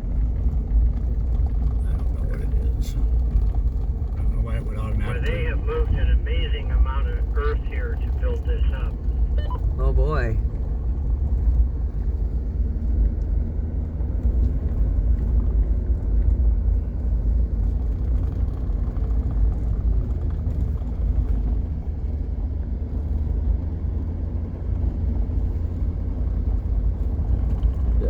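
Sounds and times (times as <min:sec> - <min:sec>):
car driving on gravel: 0:00.0 - 0:28.0.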